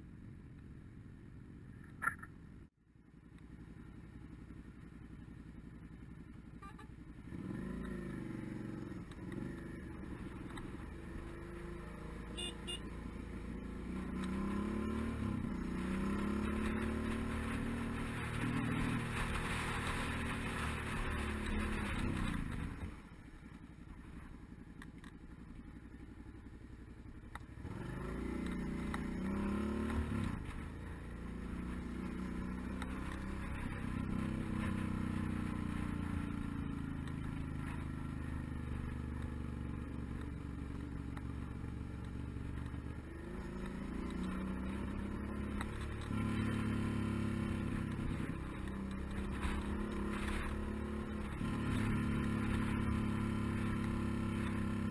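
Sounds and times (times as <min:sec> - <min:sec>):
motorcycle engine: 0:00.0 - 0:54.9.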